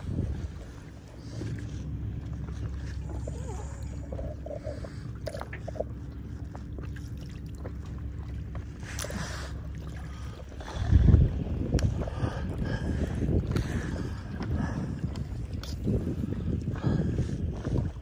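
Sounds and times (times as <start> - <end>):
faint steady hum: 0.0 - 18.0
low steady rumble: 0.0 - 18.0
water sloshing around kayak: 0.0 - 18.0.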